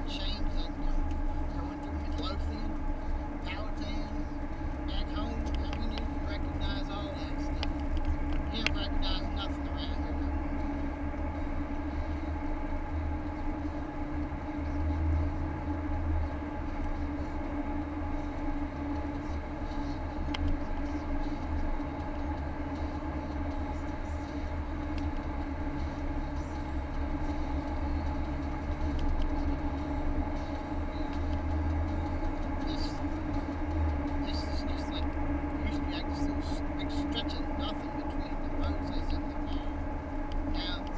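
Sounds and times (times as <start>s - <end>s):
car cabin road rumble: 0.0s - 40.9s.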